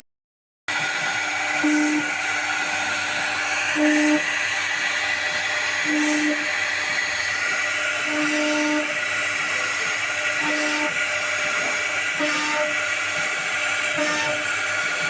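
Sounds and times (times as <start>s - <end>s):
router spindle whining: 0.7s - 15.0s.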